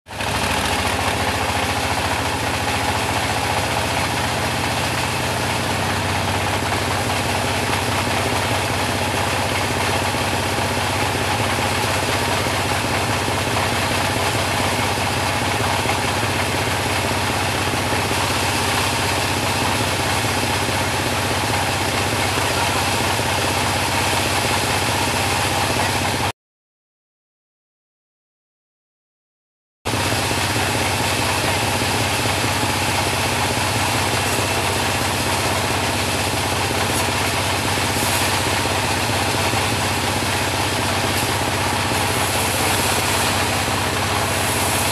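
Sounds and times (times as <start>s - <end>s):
bandsaw mill running: 0.1s - 26.3s, 29.9s - 44.9s.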